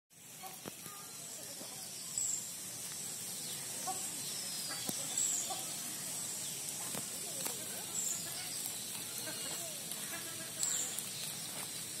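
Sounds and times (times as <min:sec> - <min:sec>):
steady outdoor hiss: 0:00.1 - 0:12.0.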